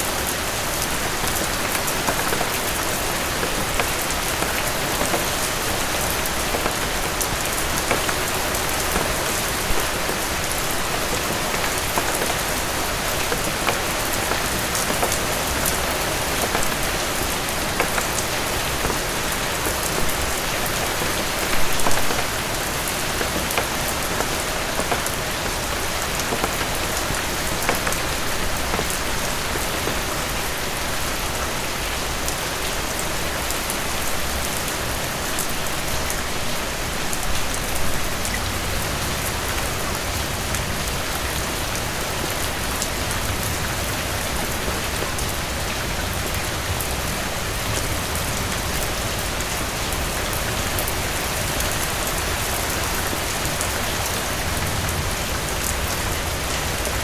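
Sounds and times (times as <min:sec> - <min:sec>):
heavy rain with drop ticks: 0:00.0 - 0:57.0.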